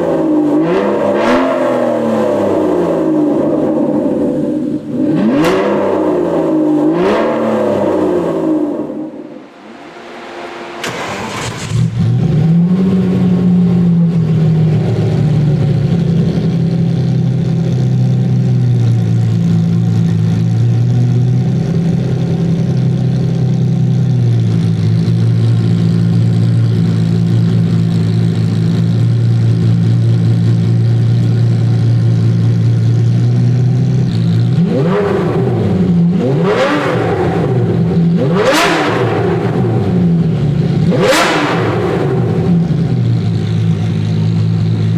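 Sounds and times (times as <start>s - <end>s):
car engine starting and idling: 0.0s - 44.9s
engine throttle blips: 0.0s - 44.9s.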